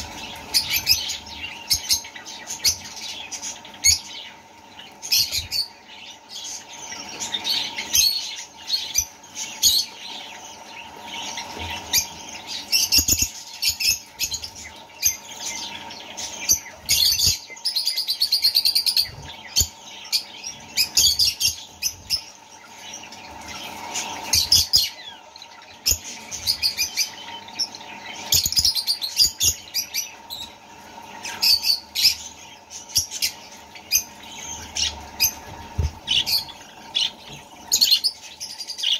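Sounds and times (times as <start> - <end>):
faint steady hum: 0.0 - 38.9
parrots chirping: 0.0 - 38.9.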